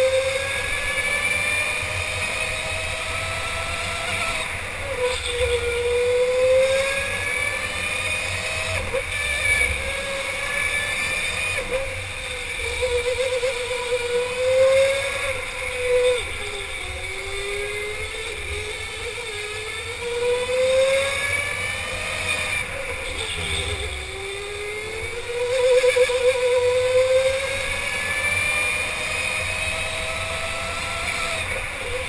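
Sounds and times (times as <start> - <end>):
electric go-kart motor whining: 0.0 - 32.0.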